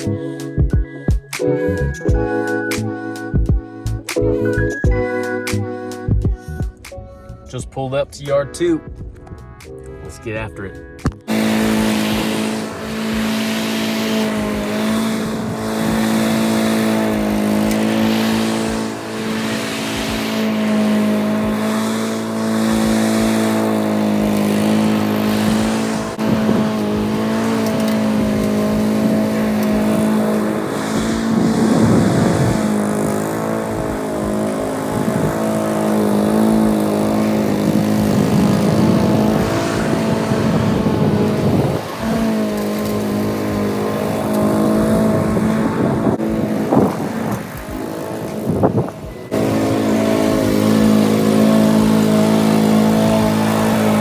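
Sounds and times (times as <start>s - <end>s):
lawn mower cutting grass: 0.0s - 6.9s, 10.3s - 54.0s.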